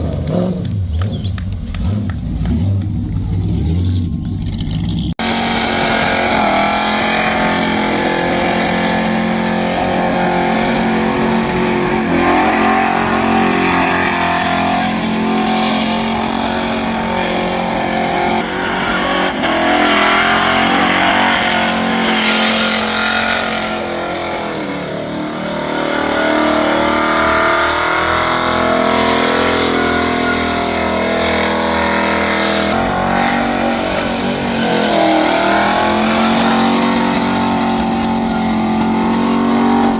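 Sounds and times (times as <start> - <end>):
car engine revving high: 0.0 - 39.9
tyre noise: 0.0 - 39.9.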